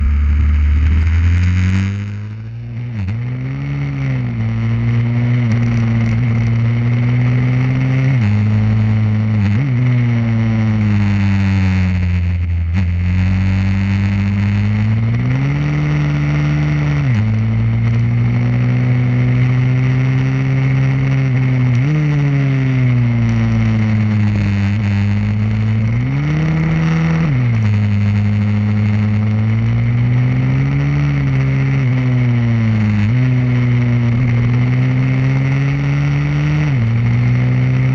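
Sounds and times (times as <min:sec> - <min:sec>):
pit bike engine revving: 0:00.0 - 0:37.9.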